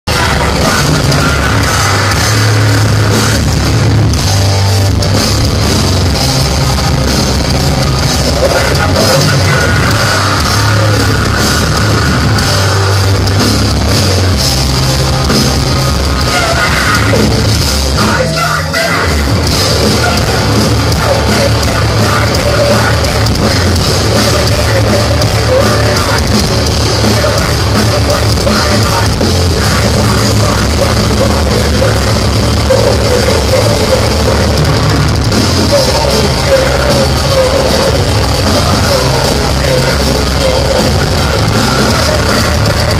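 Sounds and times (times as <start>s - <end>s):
heavy metal band playing live: 0.0s - 42.9s.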